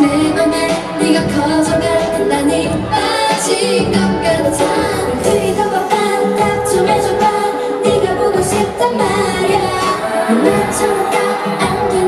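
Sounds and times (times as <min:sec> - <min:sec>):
female voices singing pop song: 0:00.0 - 0:12.0
pop backing track with beat: 0:00.0 - 0:12.0.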